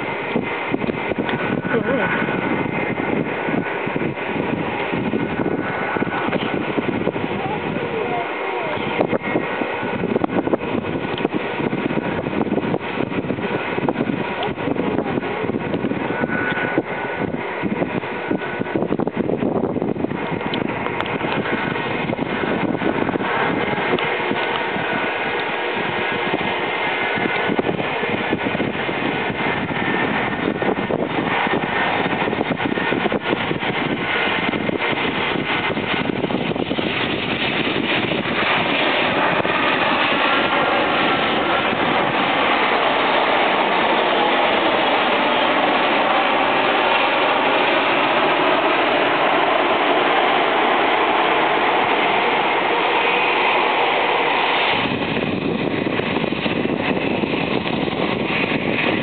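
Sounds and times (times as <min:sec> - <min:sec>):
deep rumble: 0:00.0 - 0:59.0
jet engine noise with whine: 0:00.0 - 0:59.0.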